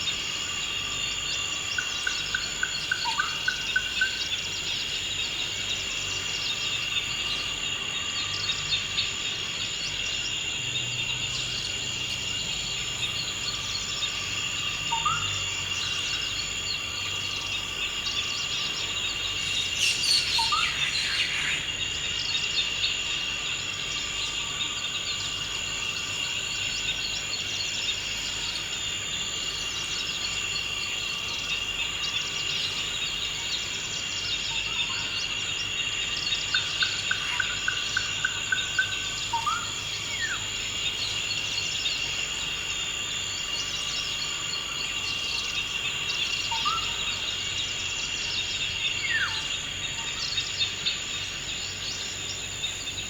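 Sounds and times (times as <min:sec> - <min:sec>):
high insect chorus: 0:00.0 - 0:53.0.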